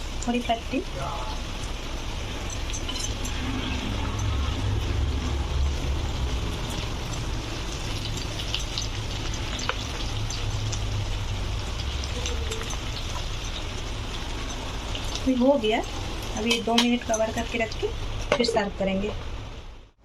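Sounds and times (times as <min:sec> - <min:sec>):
chicken sizzling in oil: 0:00.0 - 0:19.9
low hum: 0:01.0 - 0:18.8.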